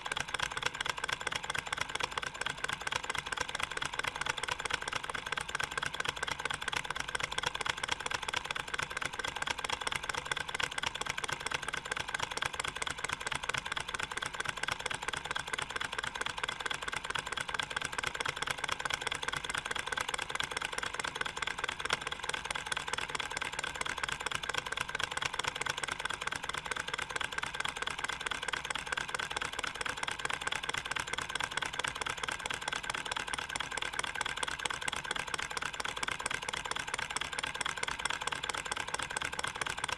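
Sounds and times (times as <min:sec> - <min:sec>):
model engine metallic ticking clatter: 0:00.0 - 0:39.9.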